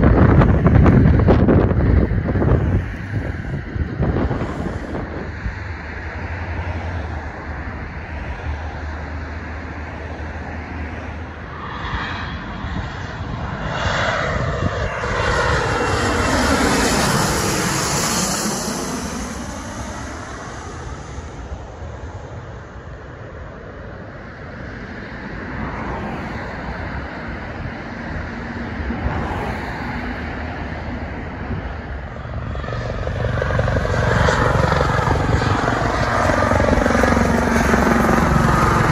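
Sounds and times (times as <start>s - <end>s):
jet passing overhead: 0.0s - 38.9s
wind rumble on microphone: 0.0s - 38.9s.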